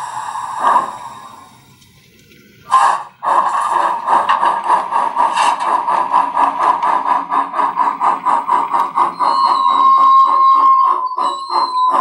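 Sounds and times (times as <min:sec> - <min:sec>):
steam exhaust chuffs from speaker: 0:00.0 - 0:01.8, 0:02.7 - 0:12.0.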